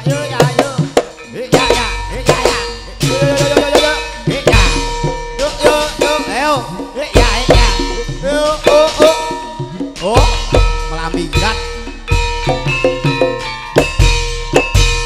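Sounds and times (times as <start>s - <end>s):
hand drums: 0.0s - 15.0s
metallophones ringing: 0.0s - 15.0s.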